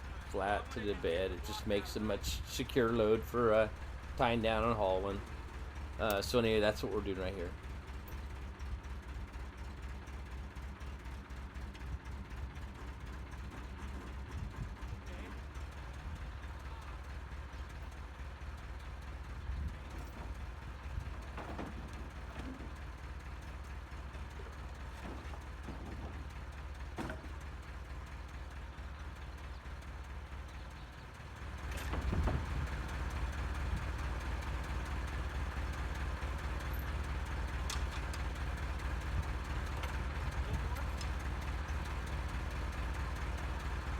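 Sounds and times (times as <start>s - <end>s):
engine knocks: 0.0s - 43.9s
forklift engine idling: 0.0s - 43.9s.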